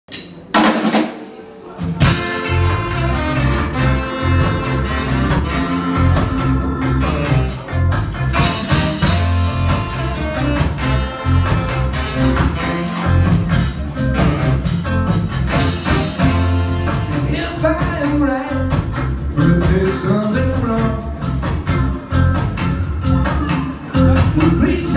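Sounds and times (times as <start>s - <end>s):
live band playing blues-rock: 0.5s - 24.9s.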